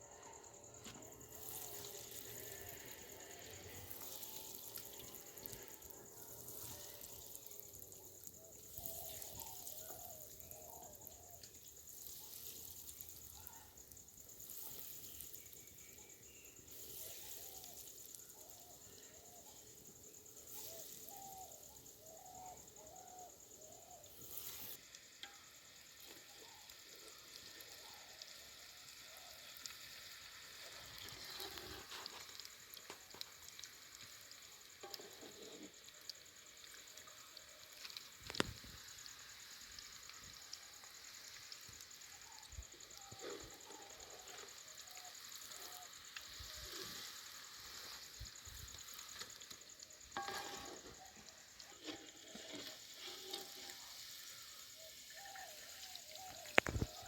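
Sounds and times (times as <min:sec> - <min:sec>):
fish frying in hot oil: 0:01.0 - 0:57.0.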